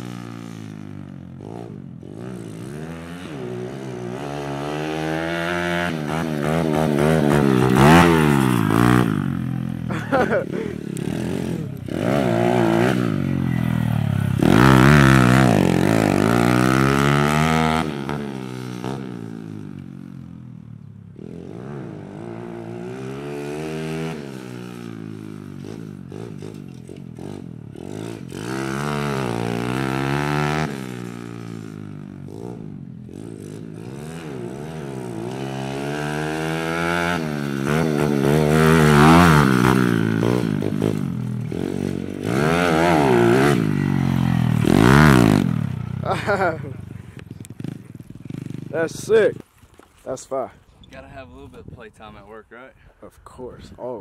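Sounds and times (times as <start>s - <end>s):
motorcycle engine revving: 0.0s - 50.5s.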